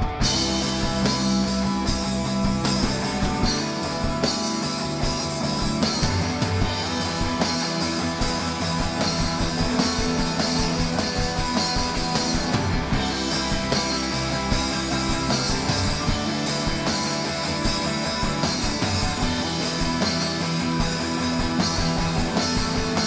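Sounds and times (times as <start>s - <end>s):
bass guitar: 0.0s - 23.0s
drum kit beat: 0.0s - 23.0s
electric guitars: 0.0s - 23.0s.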